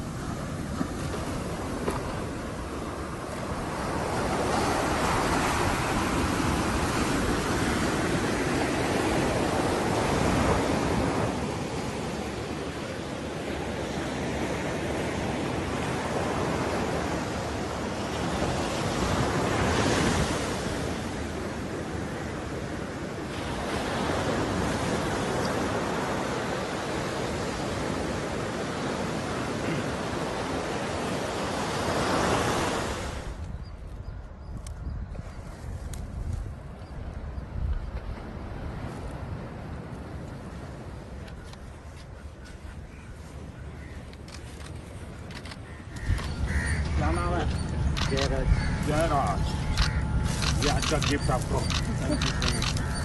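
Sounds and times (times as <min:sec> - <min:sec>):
waves breaking on a beach: 0:00.0 - 0:33.5, 0:35.6 - 0:53.0.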